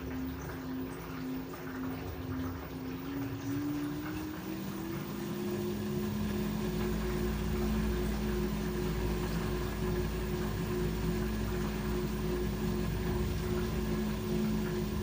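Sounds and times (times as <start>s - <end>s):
washer drum rumble: 0.0s - 15.0s
washing machine motor whine: 0.0s - 15.0s.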